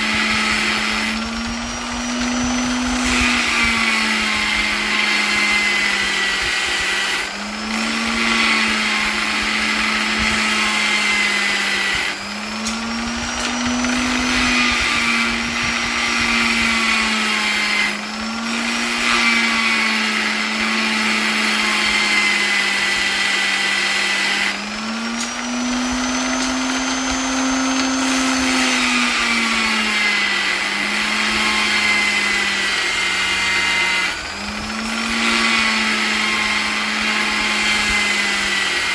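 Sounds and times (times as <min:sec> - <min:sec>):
electric polisher motor whining: 0:00.0 - 0:38.9.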